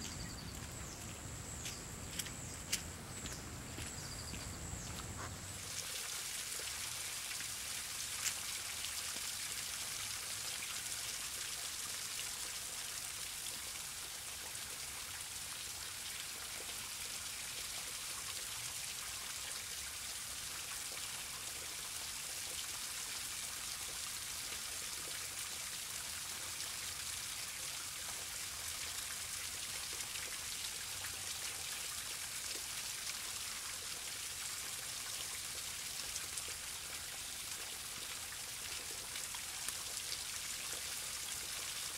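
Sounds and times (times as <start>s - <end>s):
steady rain falling: 0.0s - 22.1s, 22.8s - 41.9s.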